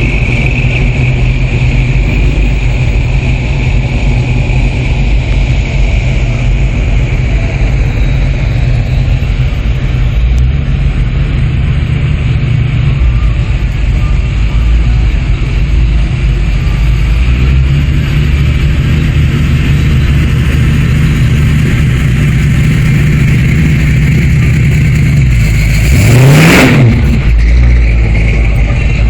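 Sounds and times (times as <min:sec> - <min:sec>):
car engines rumbling: 0:00.0 - 0:29.0
engine revving: 0:00.0 - 0:29.0.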